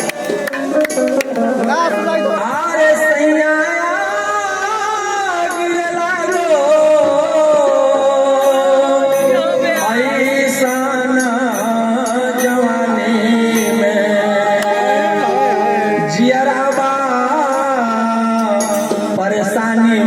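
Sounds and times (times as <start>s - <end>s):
folk song melody: 0.0s - 20.0s
sustained accompaniment: 0.0s - 20.0s.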